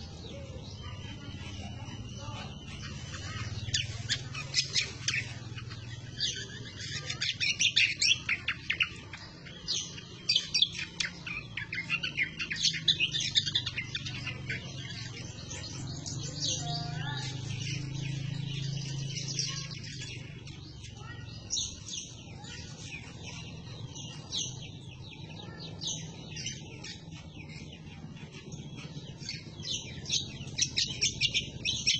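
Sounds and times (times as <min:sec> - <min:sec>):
bird singing rapid high notes: 0:00.0 - 0:31.9.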